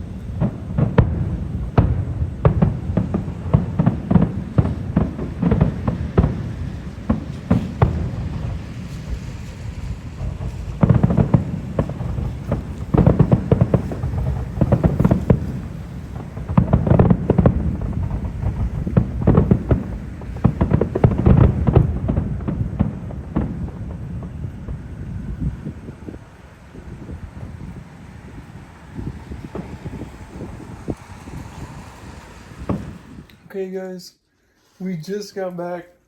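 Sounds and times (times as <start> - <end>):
fireworks bangs and crackles: 0.0 - 33.5
low rumble: 0.0 - 33.5.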